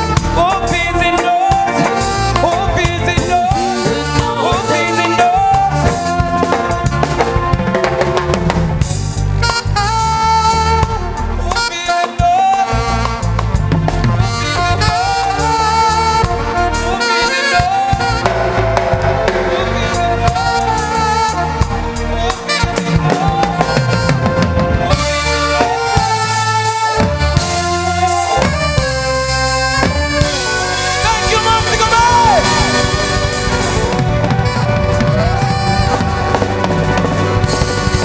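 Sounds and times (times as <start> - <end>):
reggae band playing: 0.0 - 38.0.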